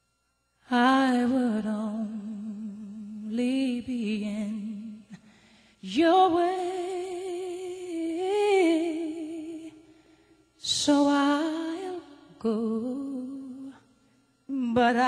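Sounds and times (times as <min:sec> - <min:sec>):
person singing with vibrato: 0:00.6 - 0:15.0.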